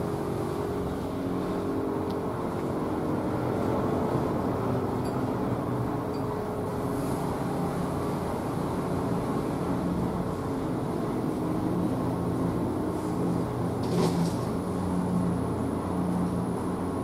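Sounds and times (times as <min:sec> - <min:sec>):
outdoor rumble: 0:00.0 - 0:17.0.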